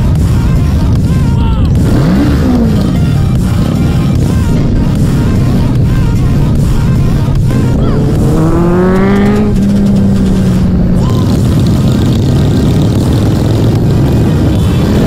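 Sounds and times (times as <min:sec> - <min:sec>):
motorcycle engine revving: 0:00.0 - 0:15.0
motorcycle engines rumbling: 0:00.0 - 0:15.0.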